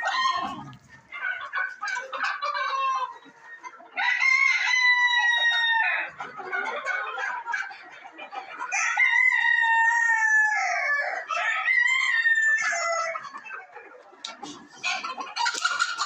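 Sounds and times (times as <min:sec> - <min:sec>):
chicken sounds: 0:00.0 - 0:16.0.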